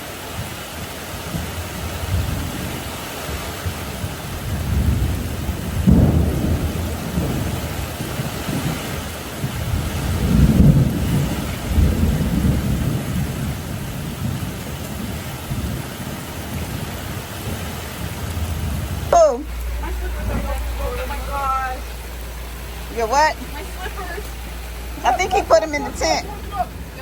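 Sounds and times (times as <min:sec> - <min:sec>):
heavy rain: 0:00.0 - 0:27.0
rolling thunder: 0:00.4 - 0:27.0.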